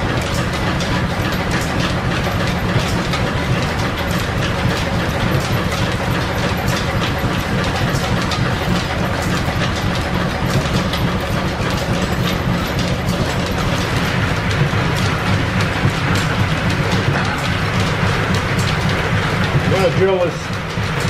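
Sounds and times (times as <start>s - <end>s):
lathe running with mechanical clatter: 0.0s - 21.0s
small clicks and rattles: 0.0s - 21.0s.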